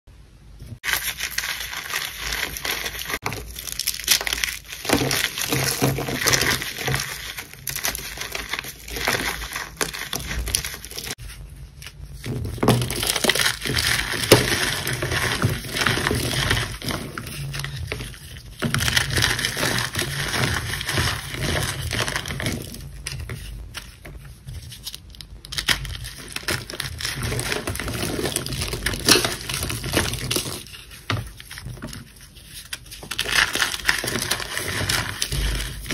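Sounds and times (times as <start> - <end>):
chalk being crushed by hand: 0.8 - 35.9.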